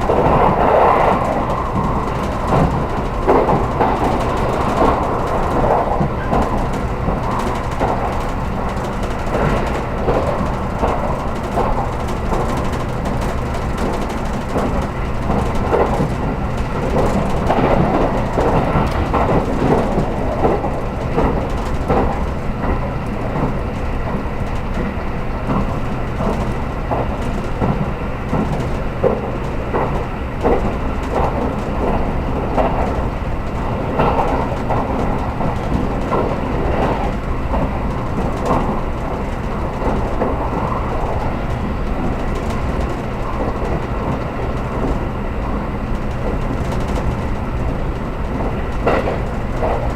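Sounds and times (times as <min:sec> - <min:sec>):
sharp track clicks: 0:00.0 - 0:49.9
train wheels rumbling on rail: 0:00.0 - 0:49.9.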